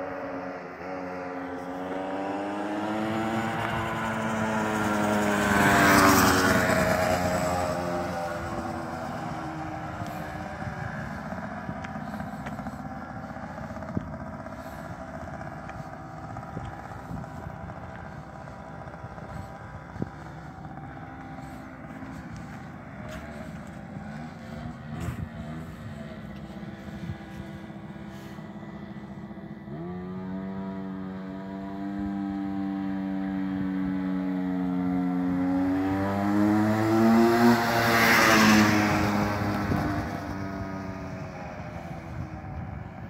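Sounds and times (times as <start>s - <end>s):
small motorbike engine buzzing: 0.0s - 43.0s.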